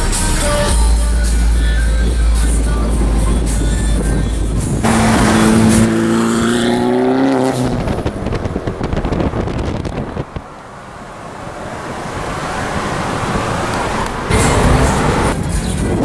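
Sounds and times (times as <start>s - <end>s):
car engine drone: 0.0s - 16.0s
road noise: 0.0s - 16.0s.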